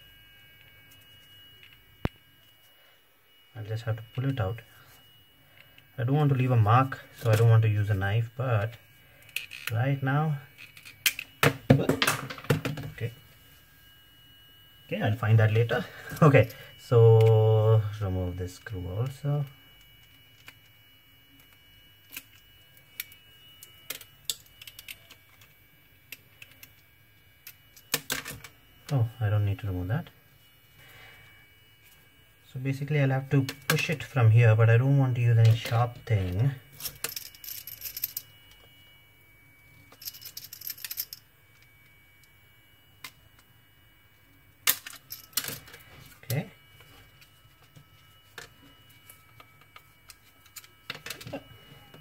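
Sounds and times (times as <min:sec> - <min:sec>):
faint motor hum: 0:00.0 - 0:52.0.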